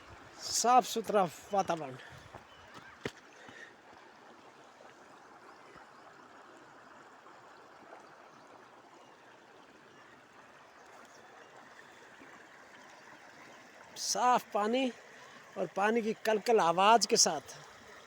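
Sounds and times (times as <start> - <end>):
stream babbling: 0.0 - 18.0.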